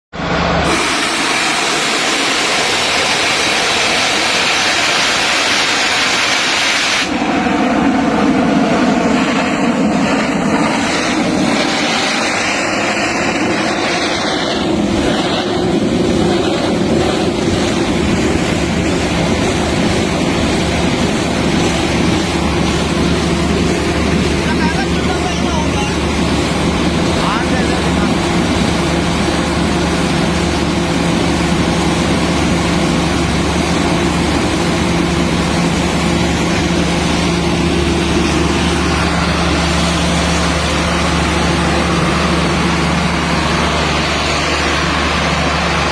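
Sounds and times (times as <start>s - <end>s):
machine hum: 0.1s - 45.9s
compressed air and water blasting: 0.2s - 45.9s.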